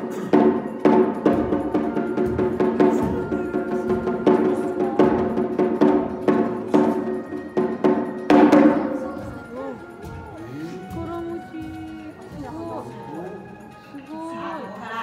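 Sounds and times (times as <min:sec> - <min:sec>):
small drum beating: 0:00.0 - 0:13.7
music with held notes: 0:00.0 - 0:15.0.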